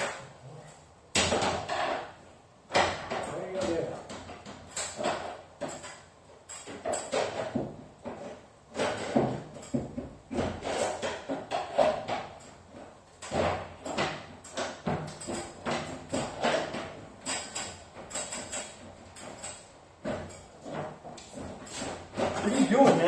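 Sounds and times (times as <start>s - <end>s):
tools knocking on garage door: 1.1s - 23.0s.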